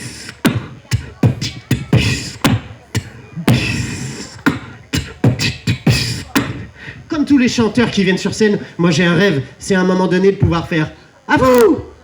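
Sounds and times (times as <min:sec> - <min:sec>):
man beatboxing: 0:00.0 - 0:12.0.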